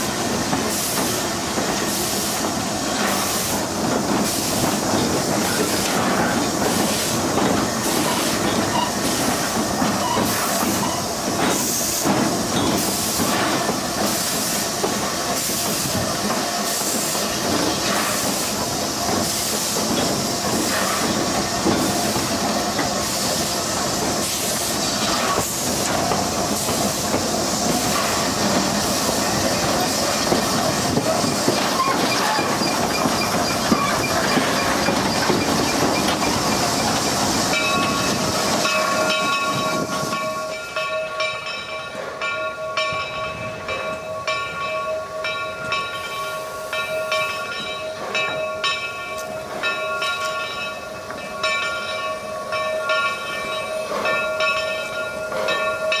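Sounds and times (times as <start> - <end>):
steam hiss: 0.0 - 56.0
wheels clattering on rail: 0.0 - 56.0.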